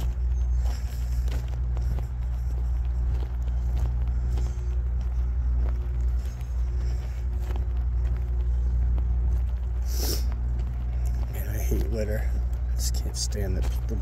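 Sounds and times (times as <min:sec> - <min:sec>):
footsteps crunching on gravel: 0:00.0 - 0:14.0
low rumble: 0:00.0 - 0:14.0.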